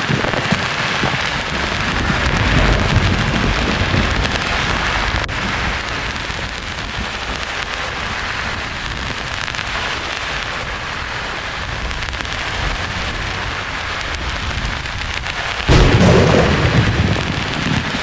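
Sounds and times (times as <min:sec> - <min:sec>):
thunder rumble: 0:00.0 - 0:18.0.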